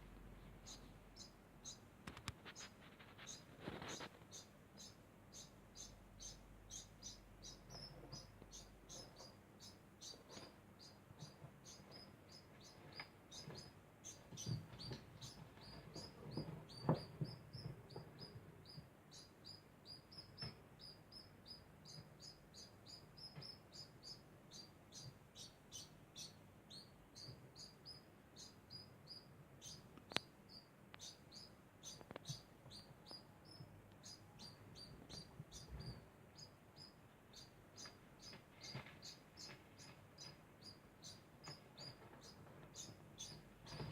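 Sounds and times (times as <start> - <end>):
rodent chirping: 0.6 - 43.9.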